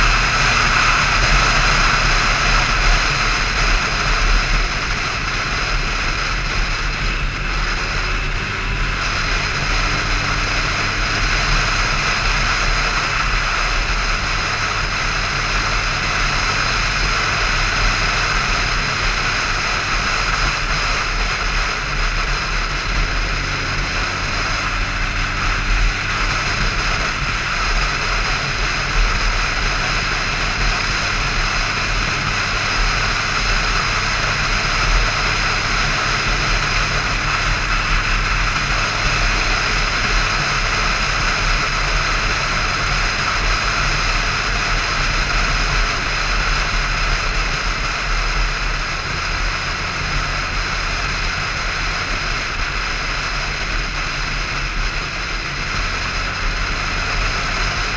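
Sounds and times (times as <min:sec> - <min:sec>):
motorcycle engine drone: 0:00.0 - 0:57.9
wind and road noise: 0:00.0 - 0:57.9.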